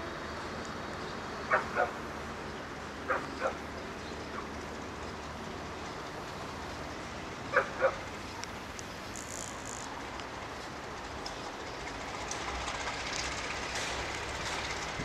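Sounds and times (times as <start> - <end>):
distant diesel locomotive rumble: 0.0 - 15.0.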